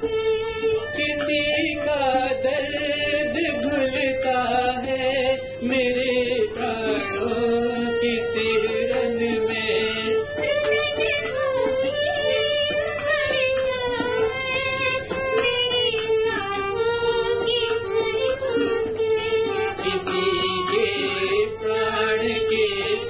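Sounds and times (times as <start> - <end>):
film song duet with vibrato melody: 0.0 - 23.0.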